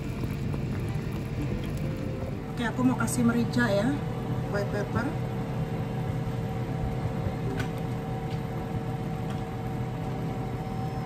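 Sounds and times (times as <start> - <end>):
appliance fan hum: 0.0 - 11.0.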